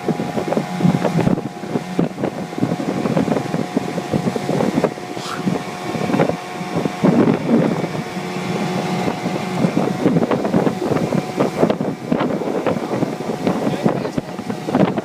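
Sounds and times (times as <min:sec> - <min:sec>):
outboard motor running: 0:00.0 - 0:15.0
wind buffeting microphone: 0:00.0 - 0:15.0.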